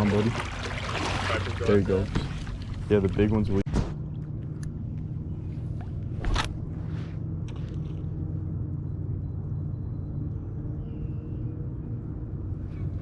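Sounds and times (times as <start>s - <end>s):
low rumble: 0.3s - 13.0s.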